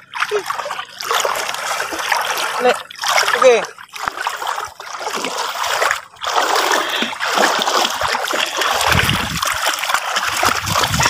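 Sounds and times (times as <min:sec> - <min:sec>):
feet splashing through water: 0:00.0 - 0:11.0.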